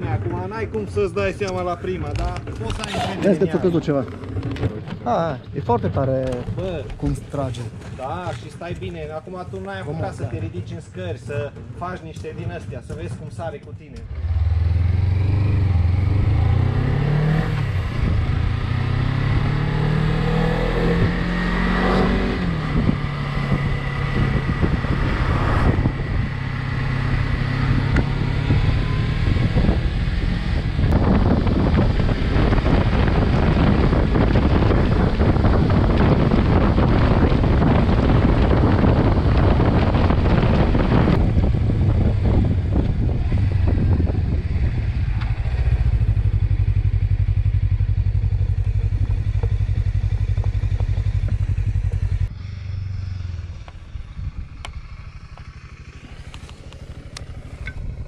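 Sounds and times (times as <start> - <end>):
motorcycle engine accelerating: 0.0 - 8.8, 11.4 - 58.0
wind and road noise: 0.0 - 58.0.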